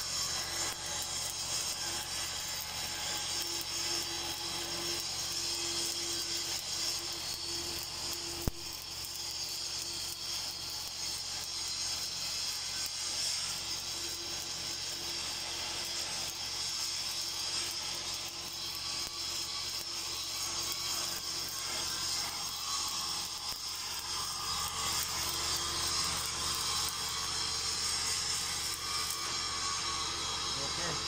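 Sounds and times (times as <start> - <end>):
welding arc crackling sizzle: 0.0 - 31.0.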